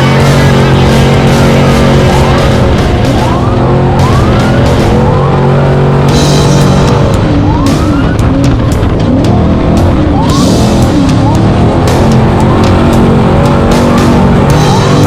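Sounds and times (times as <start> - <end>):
background music: 0.0 - 15.0
race vehicle engines revving: 0.0 - 15.0.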